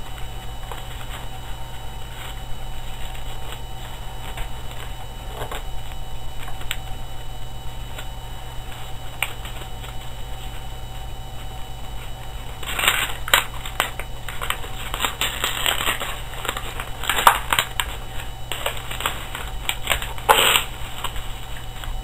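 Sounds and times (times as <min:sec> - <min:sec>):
paper being folded and creased: 0:00.0 - 0:07.3, 0:07.9 - 0:22.0
low electrical hum: 0:00.0 - 0:22.0.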